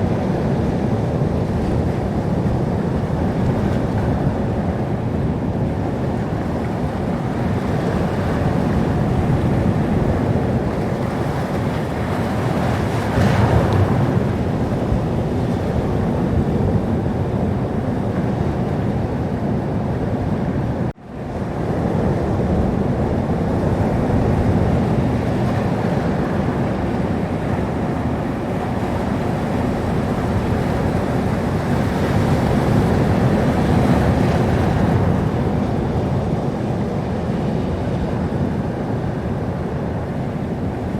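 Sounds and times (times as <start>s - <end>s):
waves breaking: 1.1s - 20.9s, 22.7s - 40.9s.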